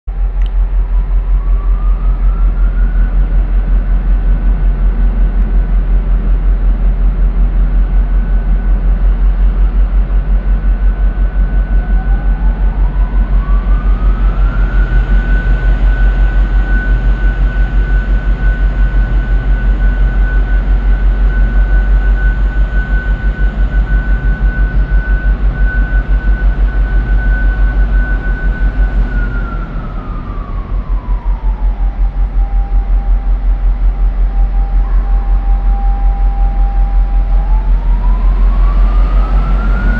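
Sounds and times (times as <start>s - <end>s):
diesel locomotive throbbing: 0.1s - 39.9s
rising whine: 0.1s - 39.9s.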